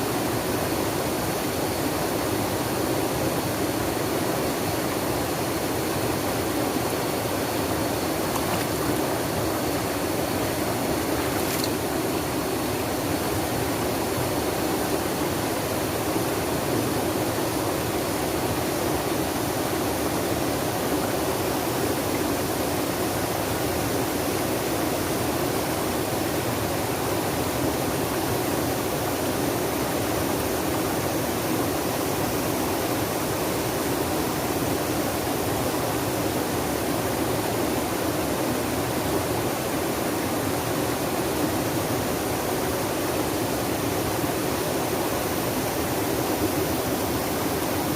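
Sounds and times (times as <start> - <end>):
water rushing: 0.0 - 47.9.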